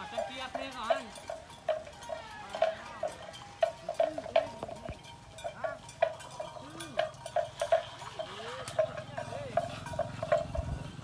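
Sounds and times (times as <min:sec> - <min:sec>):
animal bell clonking: 0:00.0 - 0:11.0.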